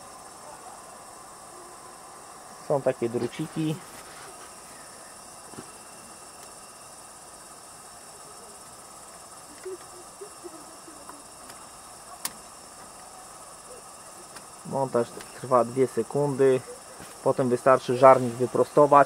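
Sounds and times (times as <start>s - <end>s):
faint steady high hiss: 0.0s - 19.0s.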